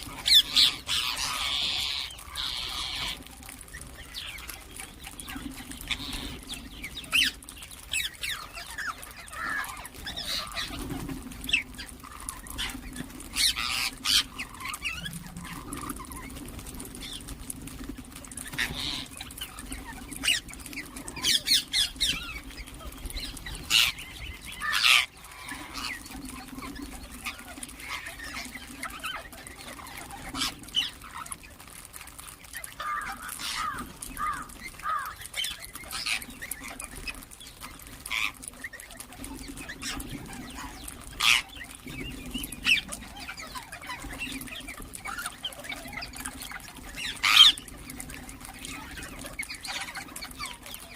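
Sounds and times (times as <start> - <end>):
parakeets squawking and chirping: 0.0 - 17.4, 18.2 - 50.9.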